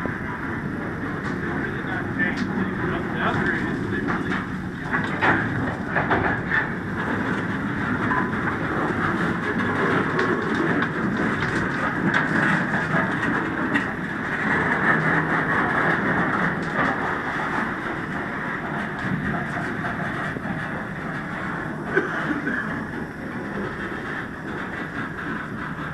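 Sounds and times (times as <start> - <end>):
steel wheels rumbling on rail: 0.0 - 25.9.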